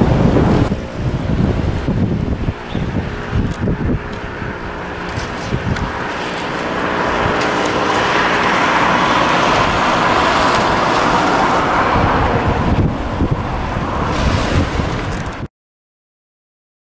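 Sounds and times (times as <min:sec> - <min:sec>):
diesel locomotive rumbling: 0:00.0 - 0:15.4
wind buffeting microphone: 0:00.0 - 0:15.5.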